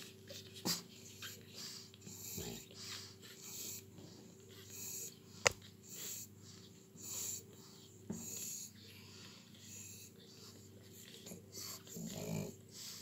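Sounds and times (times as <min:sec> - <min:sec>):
dogs breathing noisily: 0:00.0 - 0:13.0.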